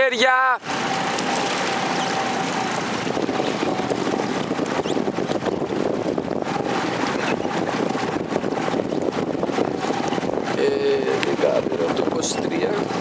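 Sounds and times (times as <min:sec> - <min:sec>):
motorboat engine running: 0:00.0 - 0:13.0
water rushing: 0:00.0 - 0:13.0
wind buffeting microphone: 0:00.6 - 0:13.0.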